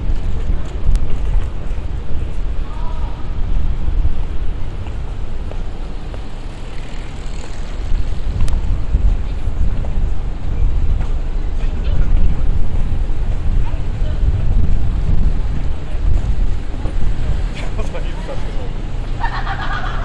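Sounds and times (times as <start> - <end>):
faint traffic noise: 0.0 - 20.0
wind buffeting microphone: 0.0 - 20.0.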